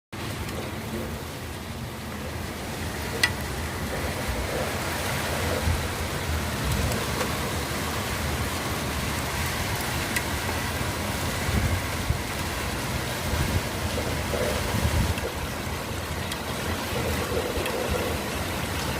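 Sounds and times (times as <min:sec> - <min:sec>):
low rumbling: 0:00.2 - 0:18.9
rain pouring: 0:00.2 - 0:18.9.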